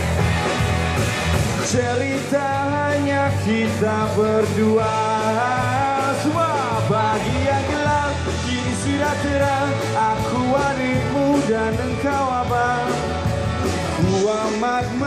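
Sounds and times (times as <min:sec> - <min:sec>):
rock band playing: 0:00.0 - 0:15.0
person singing: 0:01.5 - 0:15.0.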